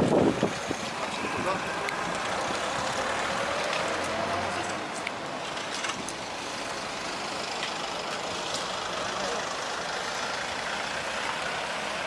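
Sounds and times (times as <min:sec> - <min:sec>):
vehicles passing on road: 0:00.0 - 0:12.0
engine low hum: 0:00.2 - 0:12.0.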